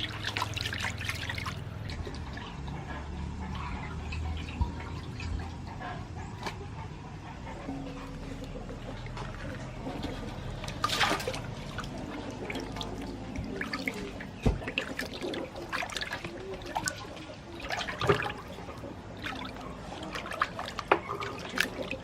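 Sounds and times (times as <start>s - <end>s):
water trickling and splashing: 0.0s - 22.0s.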